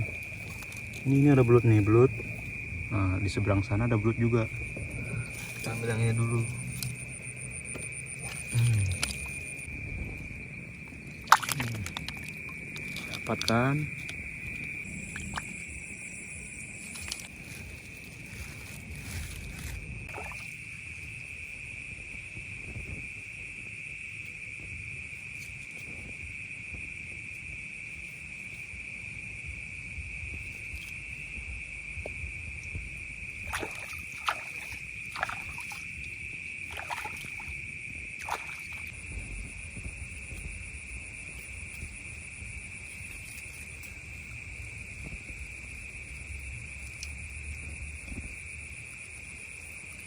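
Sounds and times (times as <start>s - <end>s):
insect chorus drone: 0.0s - 50.0s.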